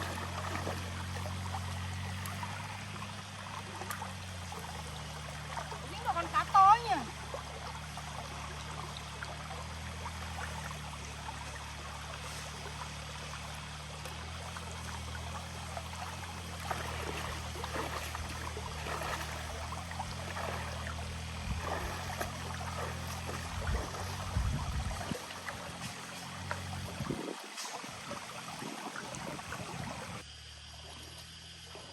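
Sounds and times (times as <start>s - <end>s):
water running and trickling: 0.0s - 30.2s
small splashes and knocks: 0.0s - 31.9s
steady low hum: 0.0s - 31.9s.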